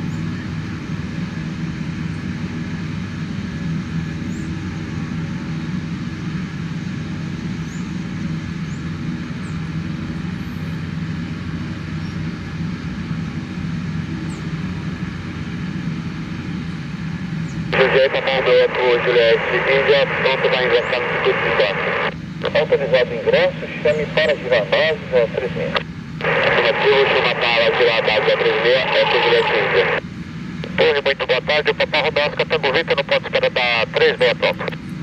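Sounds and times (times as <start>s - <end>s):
turboprop engines droning: 0.0s - 35.0s.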